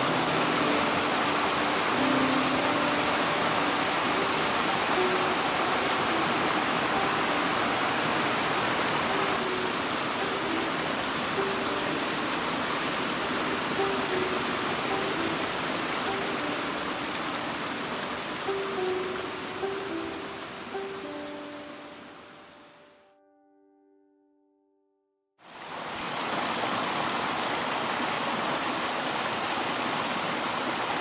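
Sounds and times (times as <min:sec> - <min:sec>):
stream rushing over rocks: 0:00.0 - 0:22.8, 0:25.4 - 0:31.0.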